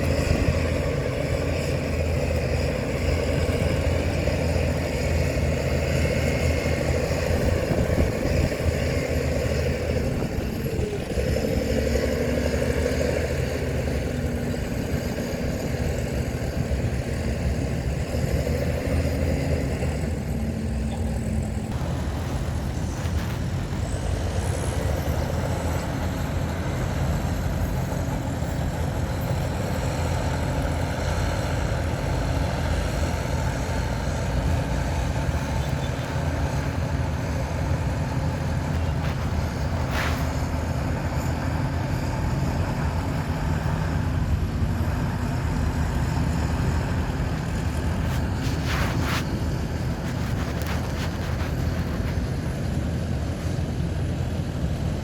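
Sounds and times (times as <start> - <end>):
diesel engine rumble: 0.0 - 55.0
wavering machinery whine: 0.0 - 55.0.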